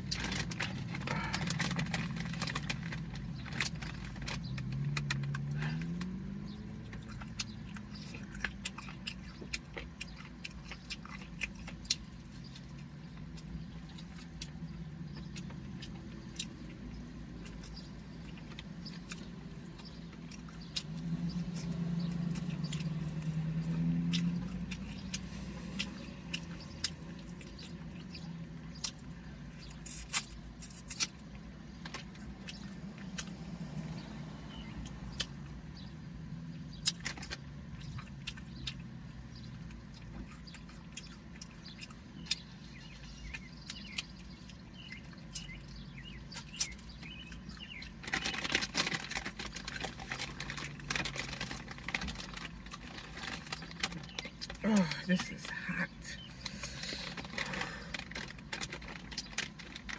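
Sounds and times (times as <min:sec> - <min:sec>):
chewing chicken with crisp clicks: 0:00.0 - 0:55.5, 0:56.2 - 0:59.9.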